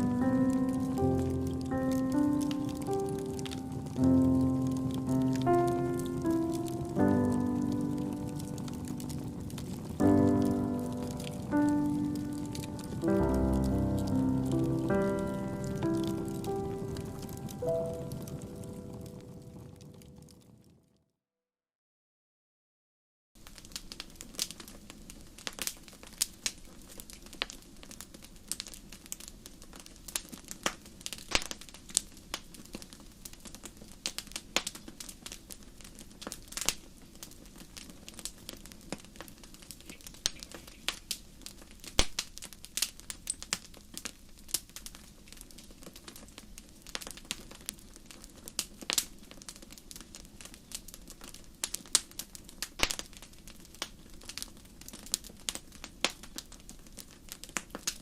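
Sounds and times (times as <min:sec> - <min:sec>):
wood fire crackling: 0:00.0 - 0:21.0, 0:23.4 - 0:58.0.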